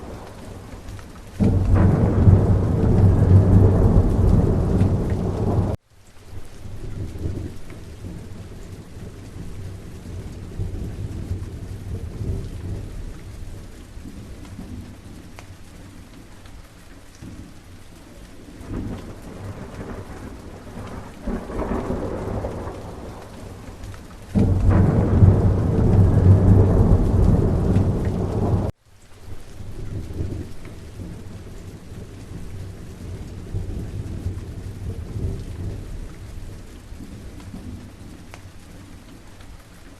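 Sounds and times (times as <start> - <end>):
rolling thunder: 0.0 - 5.8, 6.8 - 15.0, 18.6 - 28.8, 29.7 - 38.3
steady rain: 0.0 - 39.9.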